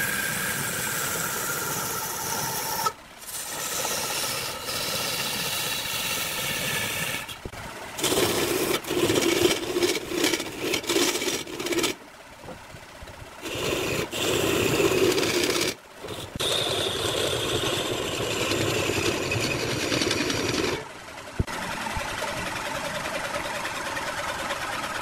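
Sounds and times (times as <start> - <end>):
chisel scraping spinning wood: 0.0 - 12.6, 13.4 - 20.9.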